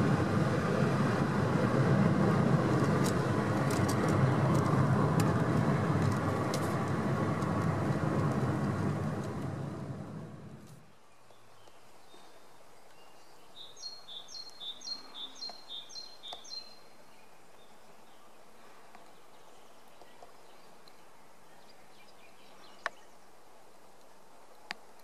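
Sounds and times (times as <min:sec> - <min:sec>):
faint outdoor background noise: 0:00.0 - 0:25.0.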